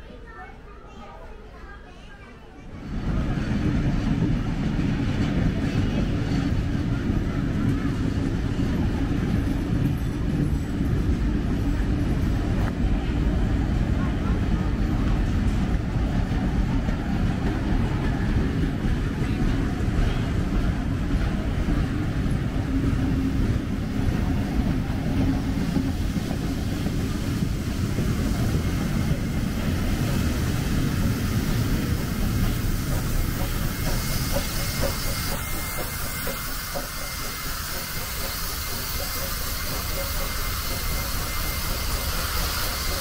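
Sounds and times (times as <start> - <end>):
train wheels rumbling on rails: 1.9 - 43.0
steam locomotive hiss: 2.8 - 43.0.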